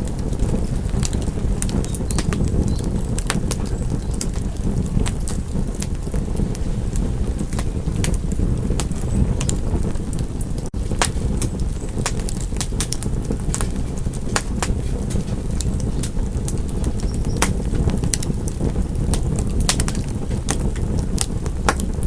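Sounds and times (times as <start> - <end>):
low roar of flames: 0.0 - 22.0
wood fire crackling and popping: 0.0 - 22.0.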